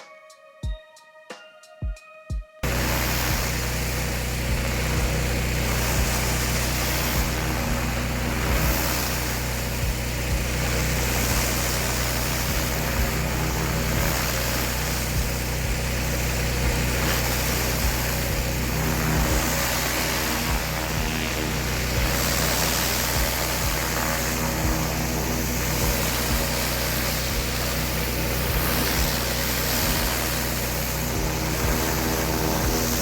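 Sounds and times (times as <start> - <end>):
constant hiss: 2.6 - 33.0
pressure washer engine running: 2.6 - 33.0.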